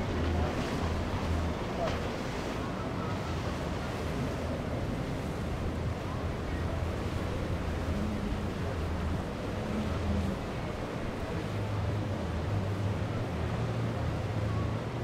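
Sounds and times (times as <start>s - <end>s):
boat engine rumble: 0.0s - 15.0s
water rushing: 0.0s - 15.0s.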